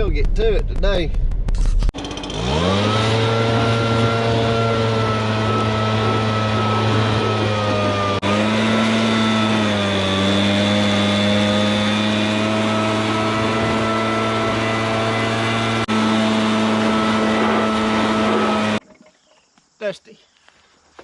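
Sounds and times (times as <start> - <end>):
engine running: 1.6 - 18.9.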